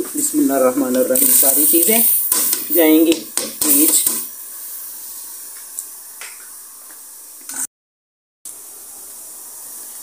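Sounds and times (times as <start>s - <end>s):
gas burner hissing: 0.0s - 7.7s, 8.5s - 10.0s.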